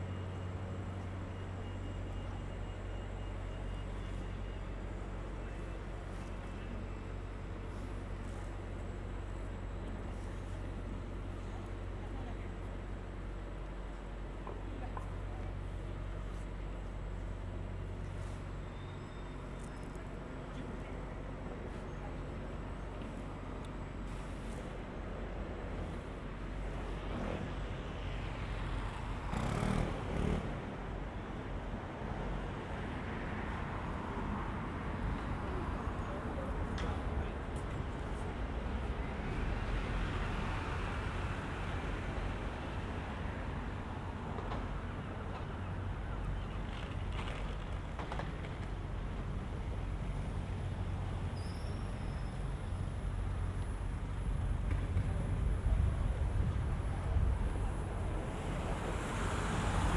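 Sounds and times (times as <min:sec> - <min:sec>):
city traffic rumble: 0:00.0 - 0:59.9.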